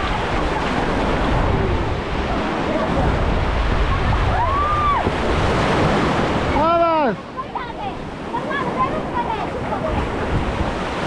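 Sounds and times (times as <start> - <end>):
sea waves washing ashore: 0.0 - 11.0
wind buffeting microphone: 0.0 - 11.0.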